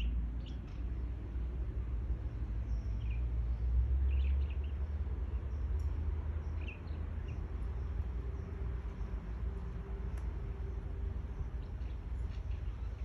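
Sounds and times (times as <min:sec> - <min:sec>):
small birds chirping: 0:00.0 - 0:01.4, 0:02.2 - 0:13.0
low outdoor rumble: 0:00.0 - 0:13.0.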